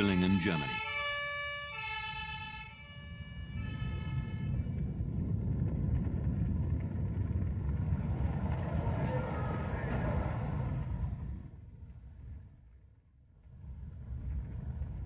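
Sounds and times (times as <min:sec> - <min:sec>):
steady low rumbling noise: 0:02.3 - 0:15.0.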